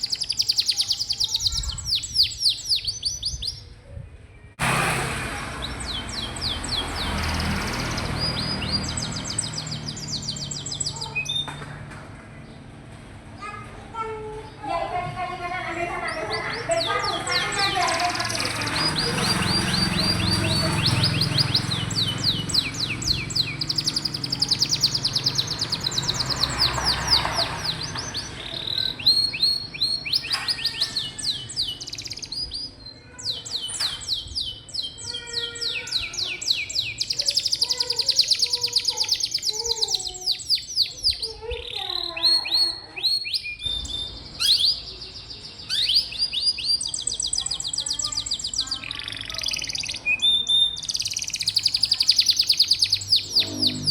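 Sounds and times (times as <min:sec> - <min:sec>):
canary singing trills: 0:00.0 - 0:04.7, 0:05.5 - 0:11.6, 0:15.3 - 0:53.9.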